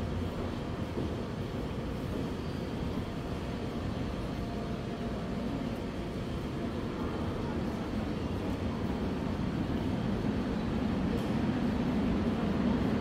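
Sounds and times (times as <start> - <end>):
subway platform rumble: 0.0 - 13.0.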